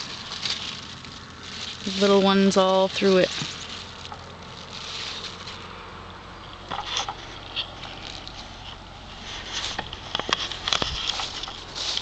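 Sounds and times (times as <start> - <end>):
leaves rustling against camera: 0.0 - 12.0.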